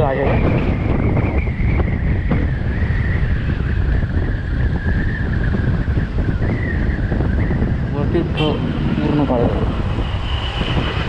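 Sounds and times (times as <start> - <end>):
wind buffeting microphone: 0.0 - 11.0
steady high whine: 0.1 - 11.0.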